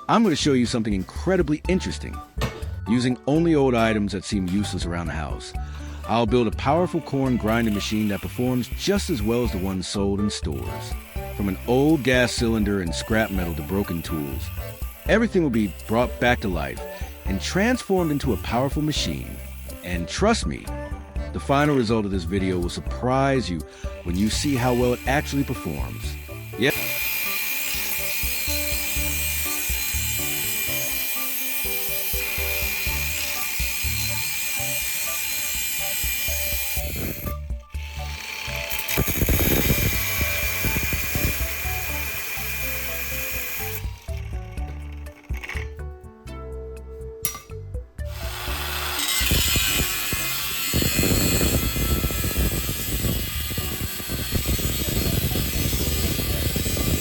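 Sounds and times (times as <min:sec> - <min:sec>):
tool rasping hiss: 0:06.8 - 0:23.0, 0:23.6 - 0:45.8, 0:47.3 - 0:57.0.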